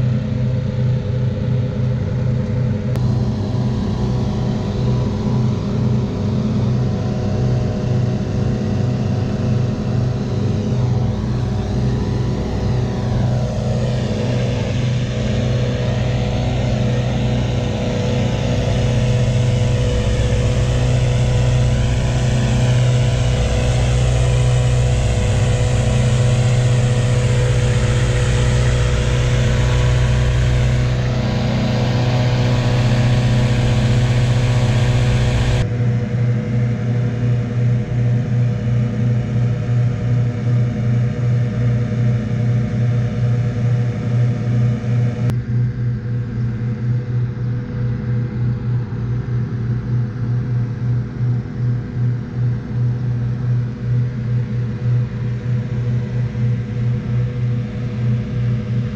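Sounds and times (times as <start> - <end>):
engine-driven fans running: 0.0 - 58.9.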